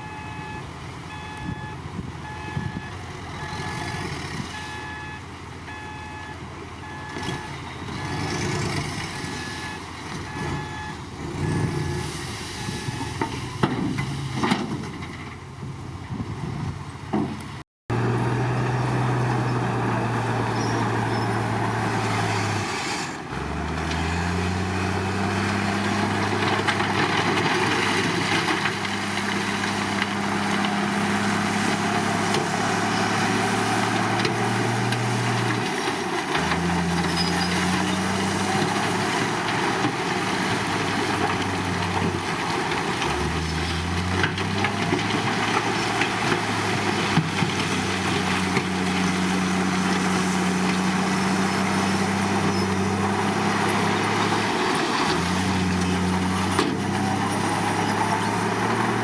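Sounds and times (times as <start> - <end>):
bulldozer diesel engine running: 0.0 - 17.1, 17.9 - 59.0.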